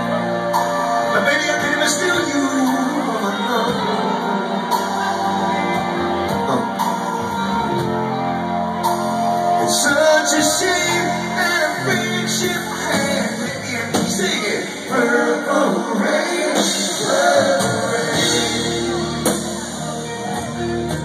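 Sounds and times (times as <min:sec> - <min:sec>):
live rock band playing: 0:00.0 - 0:21.0
person singing: 0:00.0 - 0:21.0.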